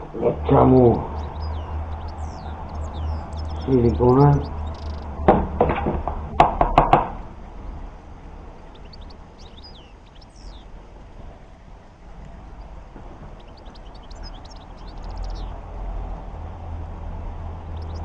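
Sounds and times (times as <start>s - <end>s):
low steady hum: 0.0s - 18.0s
small birds chirping: 0.0s - 18.0s.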